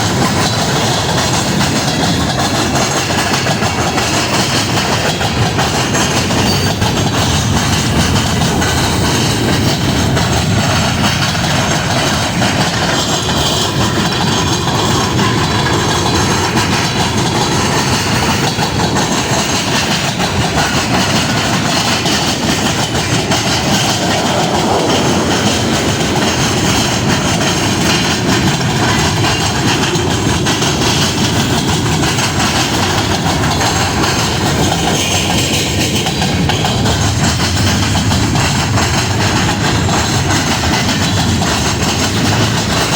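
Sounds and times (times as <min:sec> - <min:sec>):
train wheels on track: 0:00.0 - 0:42.9.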